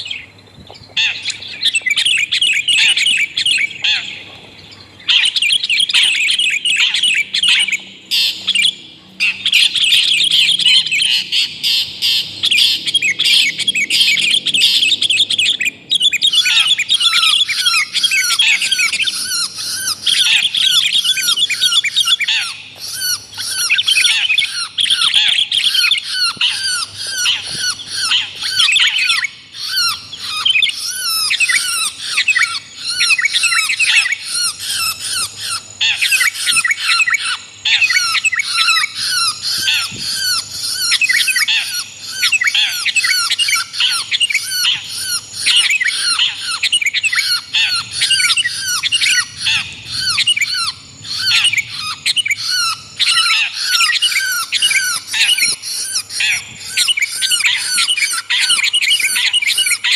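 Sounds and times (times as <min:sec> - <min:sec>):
chorus of bird calls: 0:00.0 - 0:59.9
harsh bird squawks: 0:01.0 - 0:04.4, 0:05.0 - 0:59.9.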